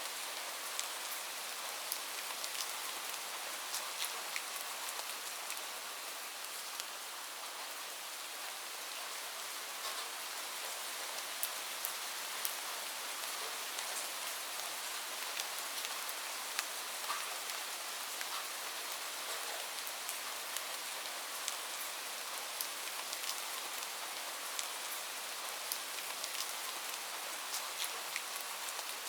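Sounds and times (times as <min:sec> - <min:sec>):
raindrops ticking on a surface: 0:00.0 - 0:07.7, 0:09.8 - 0:29.0.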